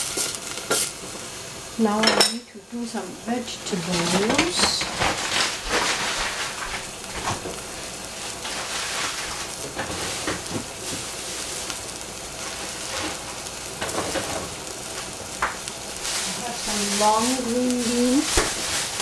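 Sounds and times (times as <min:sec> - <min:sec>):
mushrooms sizzling in oil: 0:00.0 - 0:19.0.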